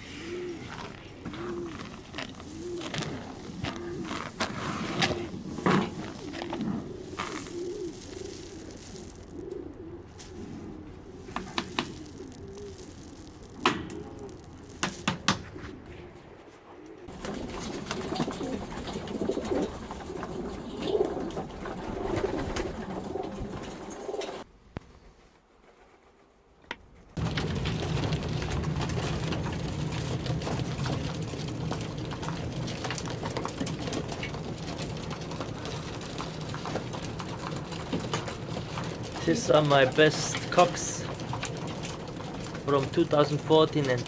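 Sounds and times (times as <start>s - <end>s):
pigeons cooing: 0.0s - 24.5s, 27.2s - 44.0s.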